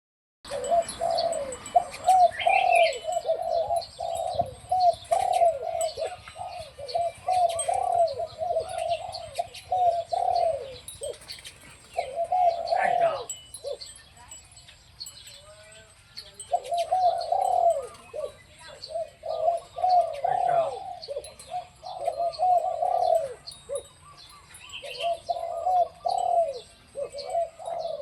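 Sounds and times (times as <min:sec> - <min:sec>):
dove cooing: 0:00.5 - 0:14.4, 0:16.3 - 0:28.0
birds chirping: 0:00.5 - 0:28.0.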